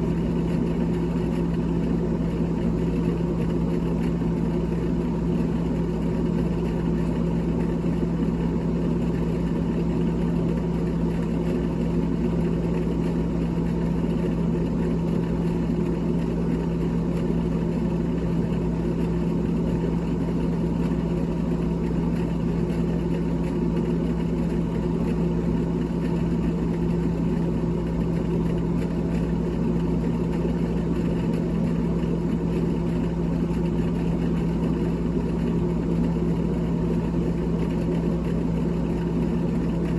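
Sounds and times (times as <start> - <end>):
refrigerator fan humming: 0.0 - 39.9.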